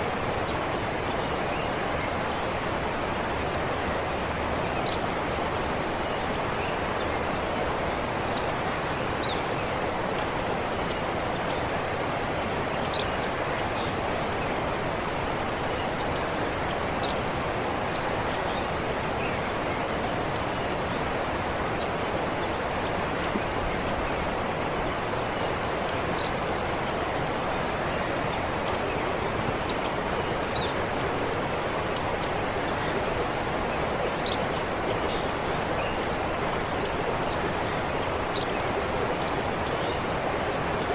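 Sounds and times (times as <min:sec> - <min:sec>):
forest stream running: 0:00.0 - 0:40.9.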